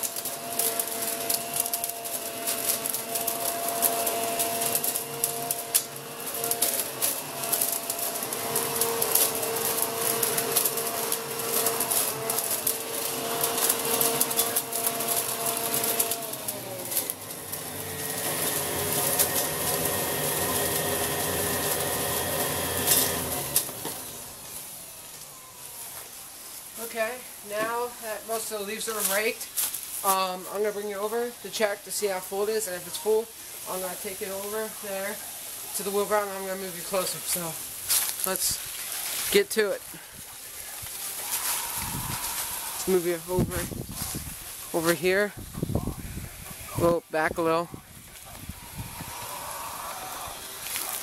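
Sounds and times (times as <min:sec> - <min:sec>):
dry leaves crackling: 0:00.0 - 0:51.0
leaf vacuum motor whine: 0:00.0 - 0:51.0.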